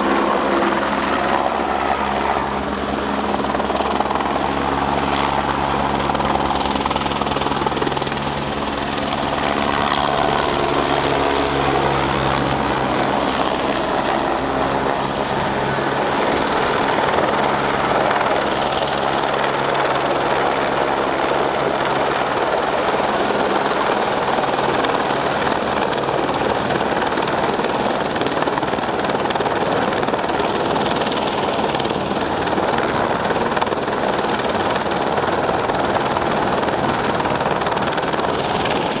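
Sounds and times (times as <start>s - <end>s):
helicopter engine and rotor: 0.0s - 39.0s.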